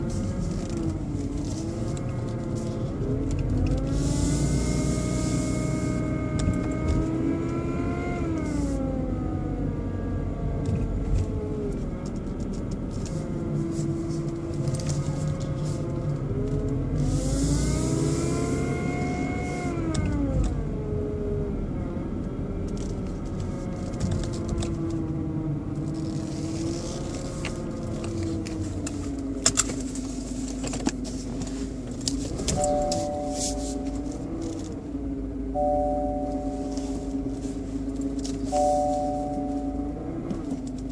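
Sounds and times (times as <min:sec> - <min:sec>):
car engine revving with whine: 0:00.0 - 0:40.9.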